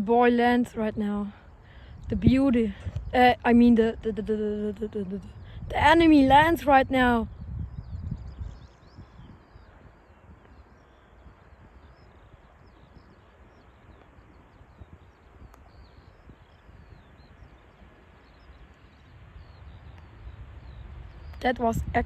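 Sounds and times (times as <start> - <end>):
distant jet airliner rumble: 0.0 - 22.0
small birds chirping: 0.0 - 22.0.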